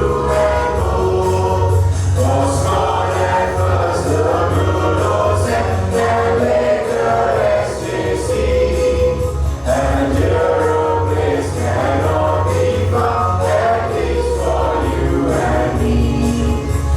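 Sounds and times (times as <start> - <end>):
choir singing with accompaniment: 0.0 - 16.9.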